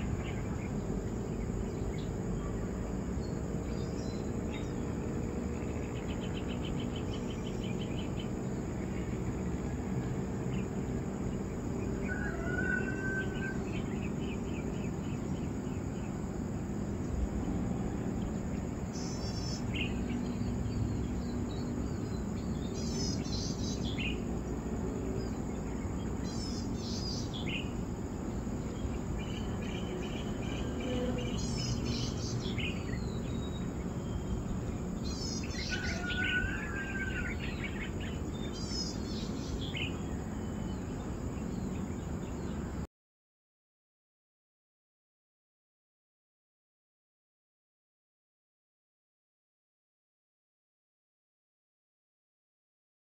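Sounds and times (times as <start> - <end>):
birds chirping: 0.0 - 42.8
insect drone: 0.0 - 42.9.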